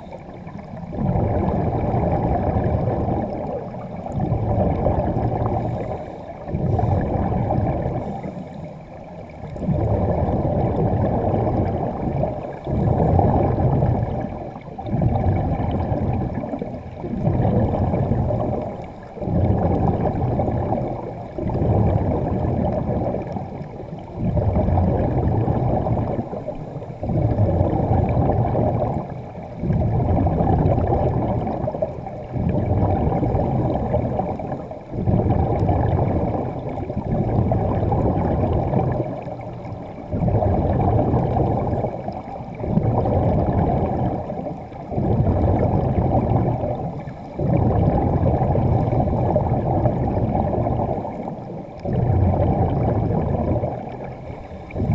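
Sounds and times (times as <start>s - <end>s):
diver breathing underwater: 0.0s - 31.6s, 32.3s - 54.9s.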